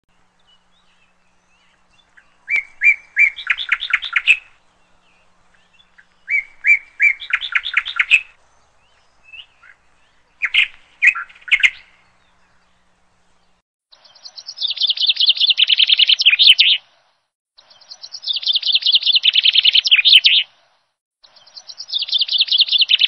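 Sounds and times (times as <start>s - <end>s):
bird singing: 0.1s - 16.8s, 17.6s - 20.5s, 21.2s - 23.0s.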